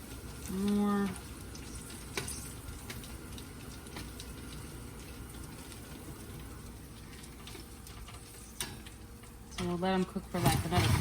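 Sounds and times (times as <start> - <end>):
meatballs sizzling: 0.0 - 11.0.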